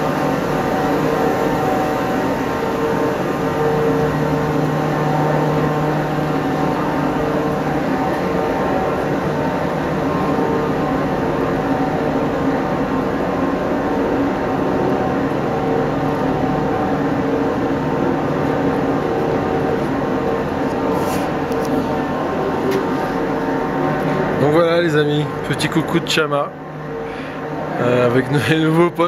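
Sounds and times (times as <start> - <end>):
locomotive engine humming: 0.0 - 29.0.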